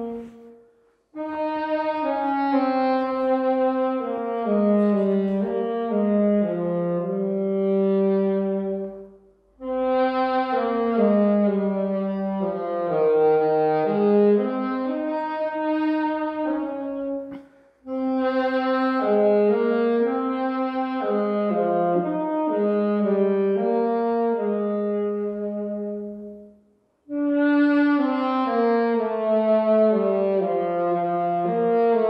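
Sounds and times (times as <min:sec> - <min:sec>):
brass ensemble playing a hymn: 0:00.0 - 0:32.0.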